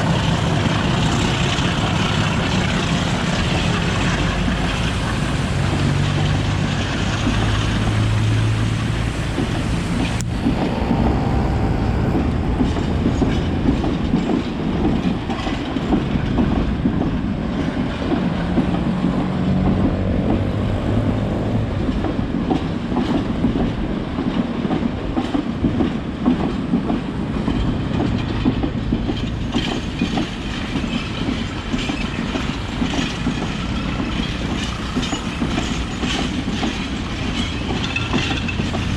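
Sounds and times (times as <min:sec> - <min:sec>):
locomotive engine hum: 0:00.0 - 0:24.3, 0:26.2 - 0:38.9
wheels clicking over rail joints: 0:00.0 - 0:38.9.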